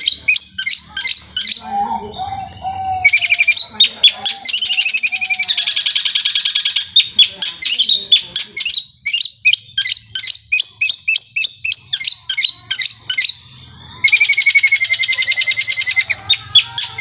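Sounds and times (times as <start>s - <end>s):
bird fast rolling trill: 0.0s - 17.0s
bird singing sharp repeated notes: 0.0s - 17.0s.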